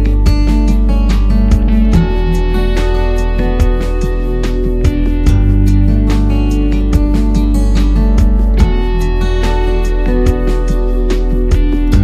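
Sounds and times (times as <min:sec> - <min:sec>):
plucked guitar music: 0:00.0 - 0:12.0
steady bass: 0:00.0 - 0:12.0.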